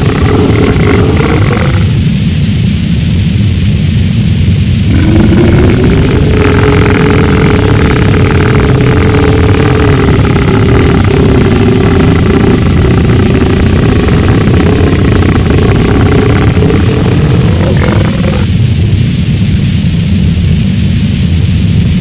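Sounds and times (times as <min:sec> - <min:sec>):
loud distorted noise: 0:00.0 - 0:22.0
steady droning tone: 0:00.0 - 0:22.0.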